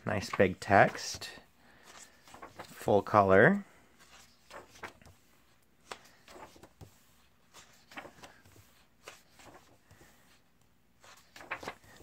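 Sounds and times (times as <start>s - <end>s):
pages turning: 0.2s - 2.9s, 4.0s - 10.4s, 11.0s - 12.0s.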